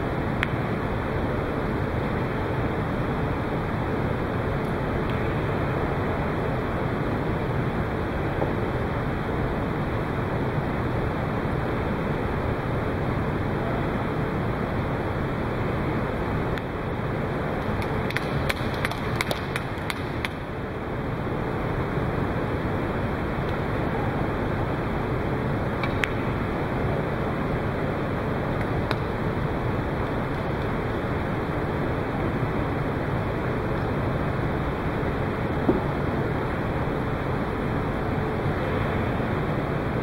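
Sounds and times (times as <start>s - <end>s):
steady rushing background noise: 0.0s - 40.0s.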